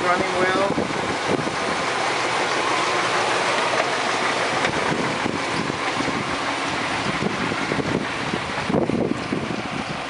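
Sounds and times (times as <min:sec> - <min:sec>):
van engine idling: 0:00.0 - 0:10.0.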